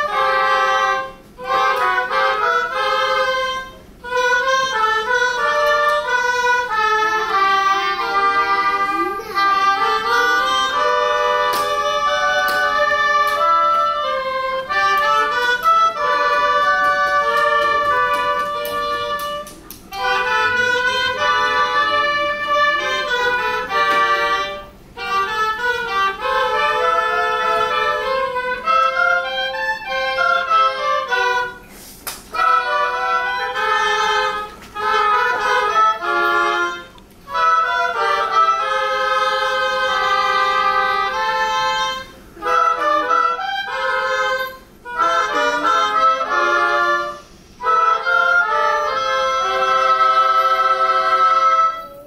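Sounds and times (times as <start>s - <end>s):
oboe ensemble playing: 0.0s - 52.0s.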